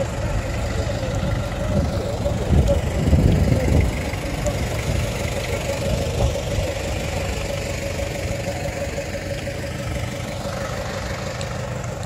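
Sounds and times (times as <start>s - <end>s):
off-road engine idling: 0.0s - 12.0s.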